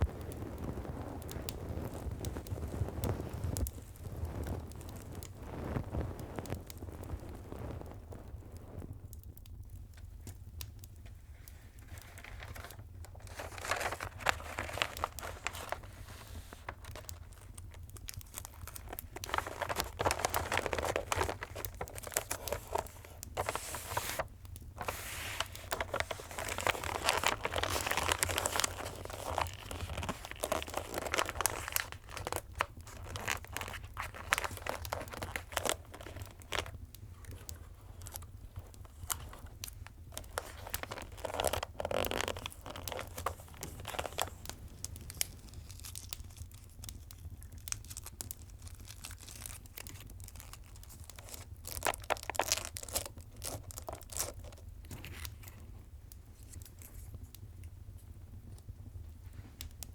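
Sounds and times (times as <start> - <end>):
wrapping paper crinkling and tearing: 0.0 - 7.8, 10.0 - 55.6.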